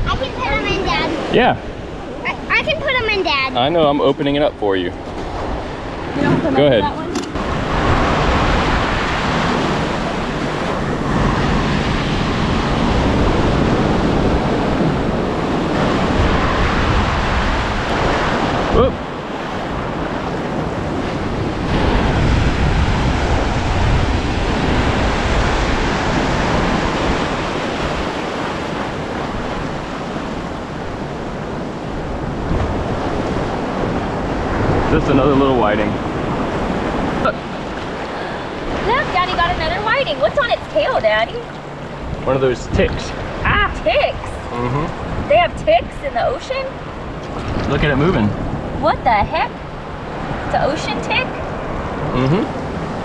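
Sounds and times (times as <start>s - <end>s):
surf breaking and washing in: 0.0s - 53.0s
wind on microphone: 0.0s - 53.0s.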